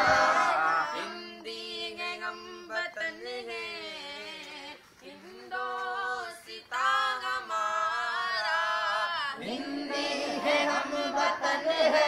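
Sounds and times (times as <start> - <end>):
voices singing without instruments: 0.0 - 12.0.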